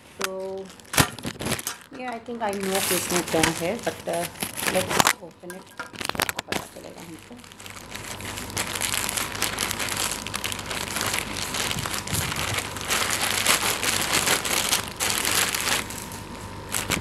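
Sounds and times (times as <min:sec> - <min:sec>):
plastic crinkling and rustling: 0:00.0 - 0:17.0
plastic mailer bag tearing: 0:00.2 - 0:17.0.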